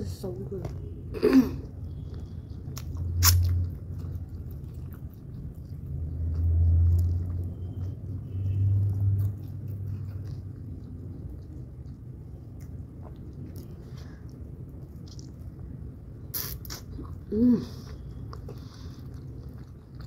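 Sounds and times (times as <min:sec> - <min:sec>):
close chewing and biting: 0:01.6 - 0:20.0.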